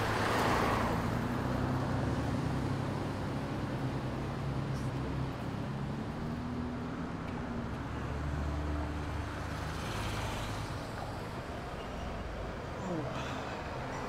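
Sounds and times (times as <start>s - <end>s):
low engine hum of vehicles: 0.0s - 14.0s
road noise: 0.0s - 14.0s.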